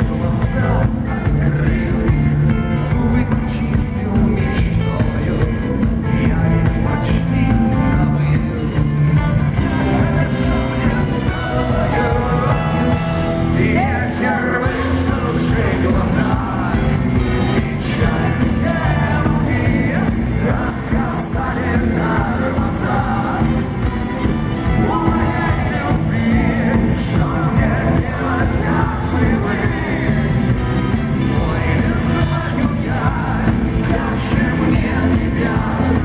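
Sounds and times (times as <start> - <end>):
person singing: 0.0 - 36.0
rock band playing live: 0.0 - 36.0.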